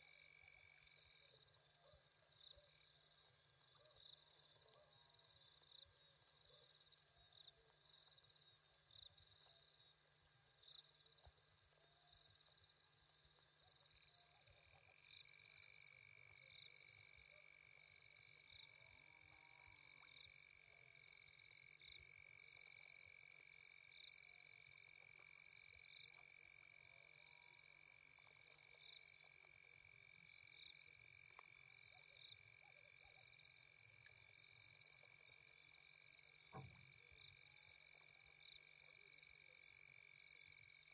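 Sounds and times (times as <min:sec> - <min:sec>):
lower steady insect trill: 0:00.0 - 0:40.9.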